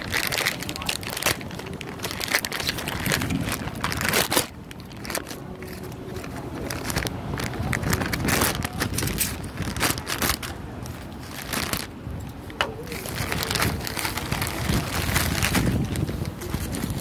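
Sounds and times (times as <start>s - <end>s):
plastic mailer crinkling and tearing: 0.0s - 11.9s, 12.6s - 17.0s.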